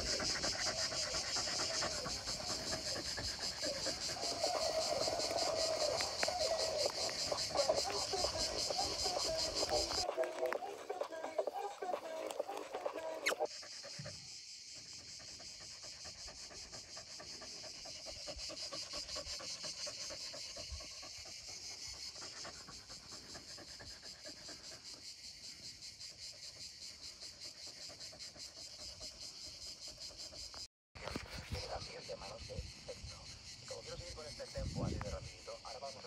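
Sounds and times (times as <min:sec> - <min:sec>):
dog panting: 0:00.0 - 0:30.7
insects trilling: 0:00.0 - 0:36.0.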